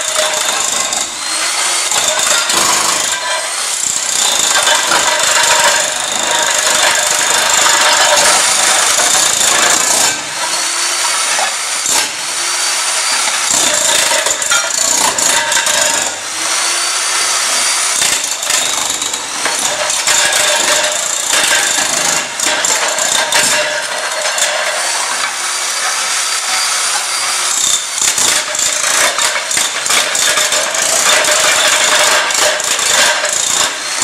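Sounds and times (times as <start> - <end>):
demolition hammer breaking tiles: 0.0 - 34.0.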